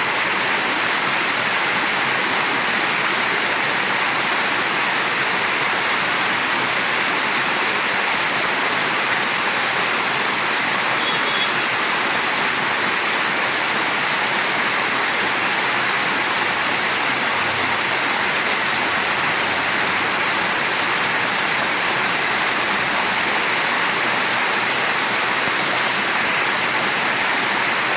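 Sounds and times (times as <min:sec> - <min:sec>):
water rushing over rocks: 0:00.0 - 0:27.9.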